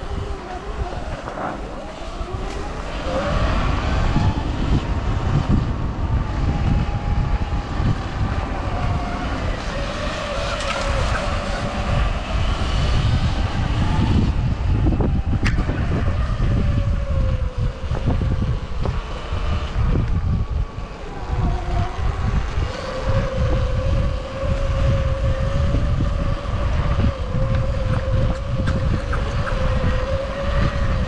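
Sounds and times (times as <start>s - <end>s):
electric motor whining: 0.0s - 31.0s
wind buffeting microphone: 0.0s - 31.0s.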